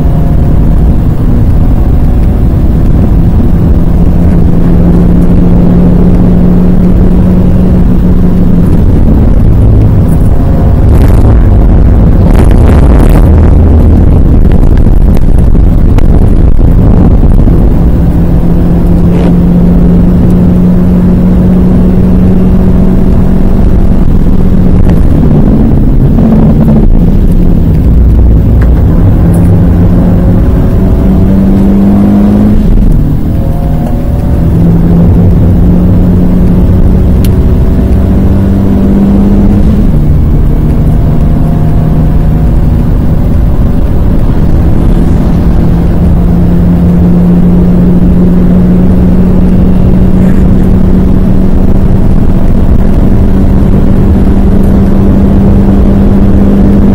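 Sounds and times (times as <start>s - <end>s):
car engine revving hard: 0.0s - 56.9s.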